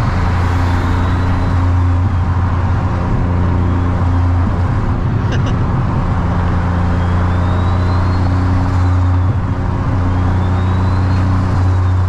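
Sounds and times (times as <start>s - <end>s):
low engine drone: 0.0s - 12.0s
road and tyre noise: 0.0s - 12.0s.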